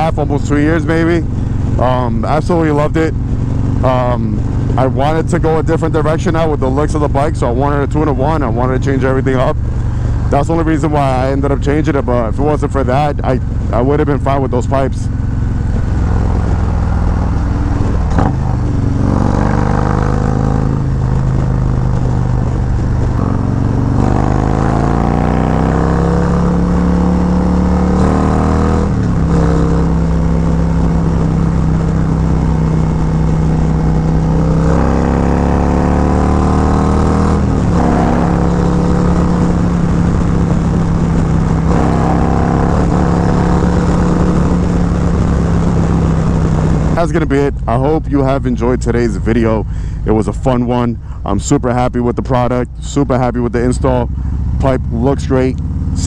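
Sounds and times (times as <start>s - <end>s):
motorcycle engine while riding: 0.0s - 56.0s.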